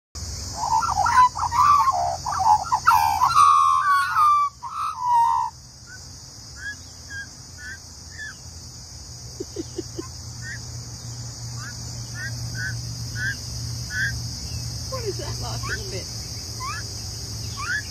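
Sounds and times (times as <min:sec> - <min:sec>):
magpies warbling: 0:00.4 - 0:06.0, 0:06.6 - 0:08.4, 0:09.4 - 0:10.7, 0:11.5 - 0:17.9.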